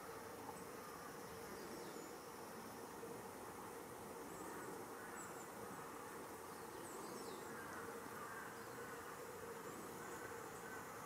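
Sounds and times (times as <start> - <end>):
faint buzzing hum: 0.0 - 11.0.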